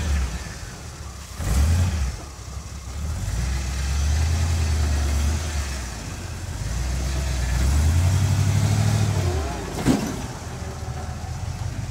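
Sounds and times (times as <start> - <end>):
jeep engine: 0.0 - 11.9.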